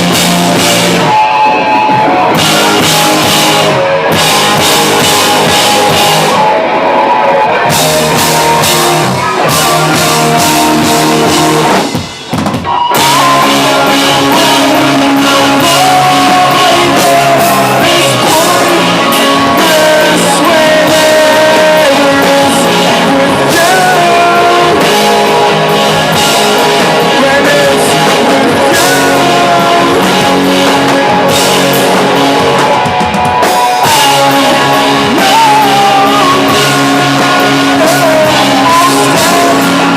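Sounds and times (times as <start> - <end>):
person singing: 0.0 - 12.0, 12.8 - 39.9
drum kit: 0.0 - 39.9
guitar: 0.0 - 39.9.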